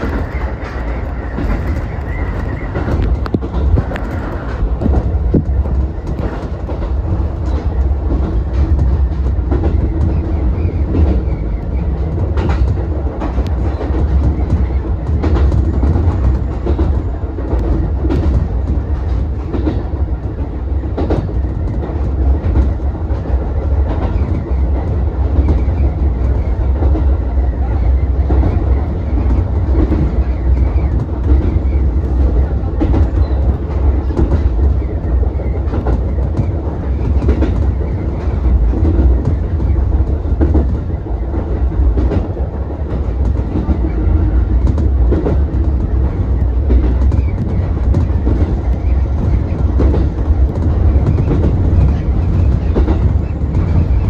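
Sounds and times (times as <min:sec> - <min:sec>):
low rumble of wheels and track: 0:00.0 - 0:54.0
wheels clacking over rail joints: 0:00.0 - 0:54.0.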